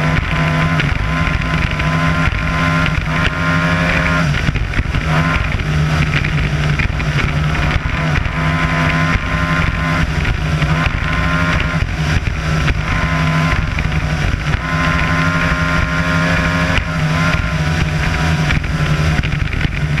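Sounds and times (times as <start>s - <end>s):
outboard motor running: 0.0s - 20.0s
water rushing along hull: 0.0s - 20.0s.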